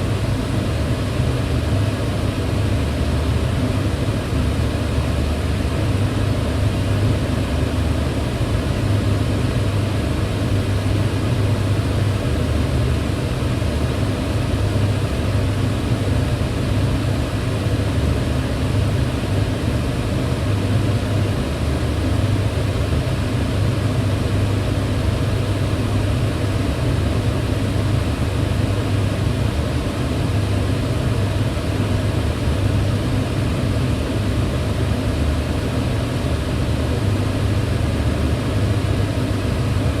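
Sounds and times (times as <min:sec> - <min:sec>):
extractor fan running: 0:00.0 - 0:40.0.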